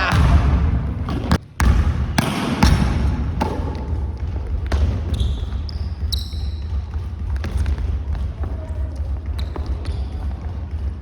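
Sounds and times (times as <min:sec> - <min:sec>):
basketball bouncing on gym floor: 0:00.0 - 0:11.0
sneakers squeaking on floor: 0:00.0 - 0:11.0.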